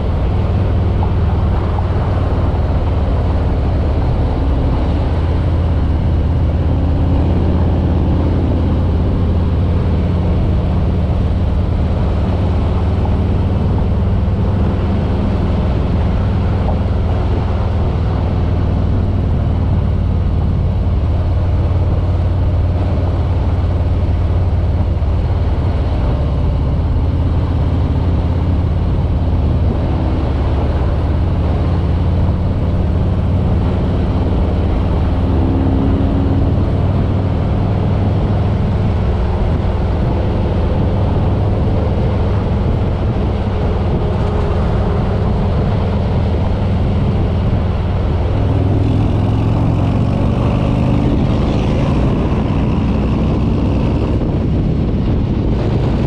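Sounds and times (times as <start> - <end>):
motorcycle engine rumble: 0.0 - 56.0
road noise: 0.0 - 56.0
wind noise: 0.0 - 56.0.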